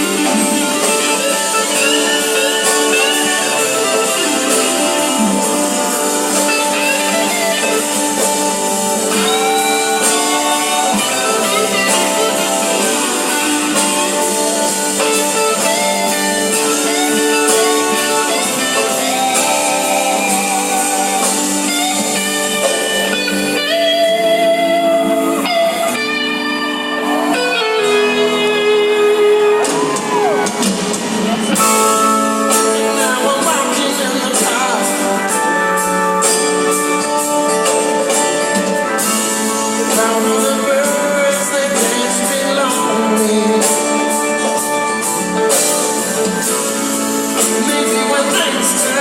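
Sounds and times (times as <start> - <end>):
band playing blues-rock: 0.0 - 49.0
lead guitar wavering notes: 0.0 - 49.0.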